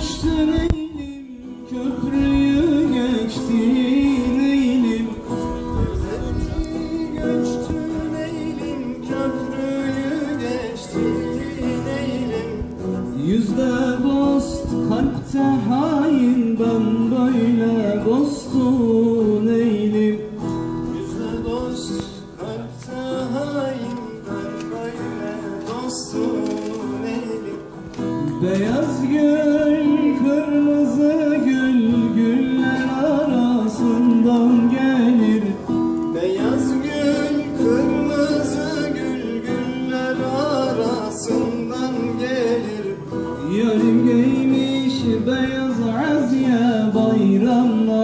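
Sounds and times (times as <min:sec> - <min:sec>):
acoustic guitar: 0:00.0 - 0:48.0
man singing into microphone: 0:00.0 - 0:48.0.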